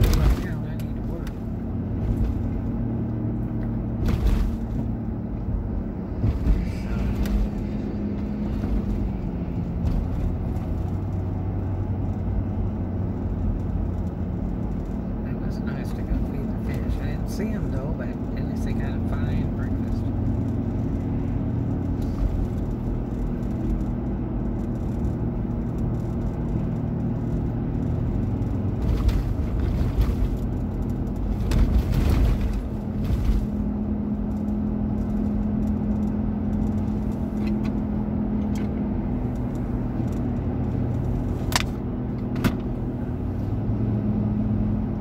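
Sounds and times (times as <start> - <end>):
car engine and road drone: 0.0 - 45.0.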